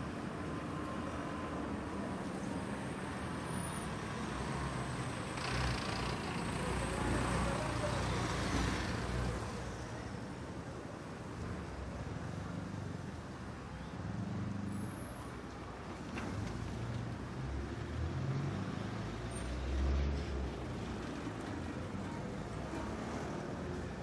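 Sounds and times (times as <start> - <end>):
passing vehicles: 0.0 - 24.0.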